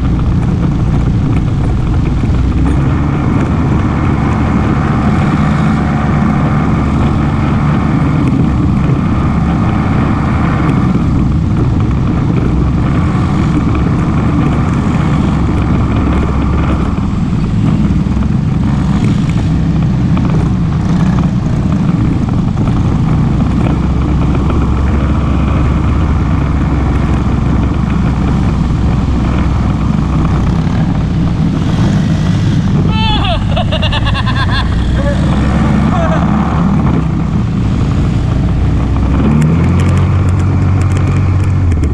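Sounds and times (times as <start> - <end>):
quad bike engine running: 0.0 - 41.9.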